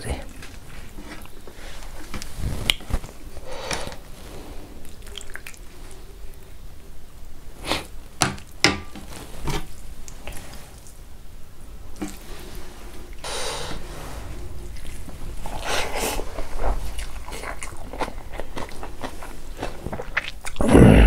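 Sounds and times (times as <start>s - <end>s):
wet squishing of rice: 0.0s - 13.2s, 13.8s - 20.6s.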